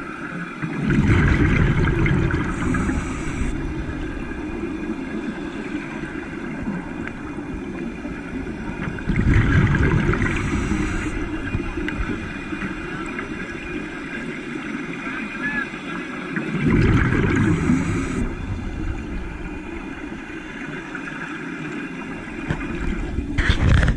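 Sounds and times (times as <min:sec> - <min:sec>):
underwater bubbling of exhaled air: 0:00.0 - 0:23.9.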